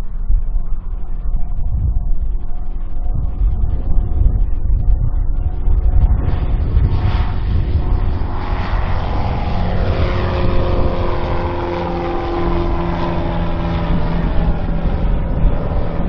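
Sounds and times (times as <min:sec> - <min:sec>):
low rumble: 0:00.0 - 0:16.0
propeller plane engine: 0:00.0 - 0:16.0.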